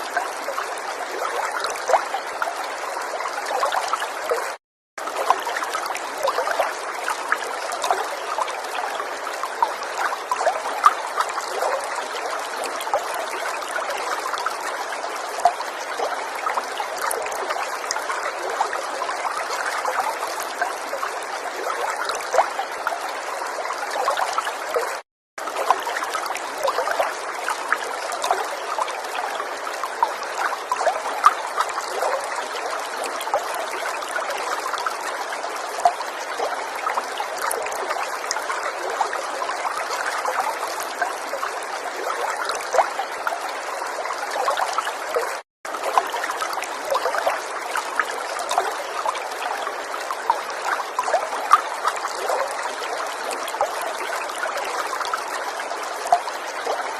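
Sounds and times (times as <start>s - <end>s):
river water flowing: 0.0s - 56.9s
small water splashes: 0.0s - 56.9s.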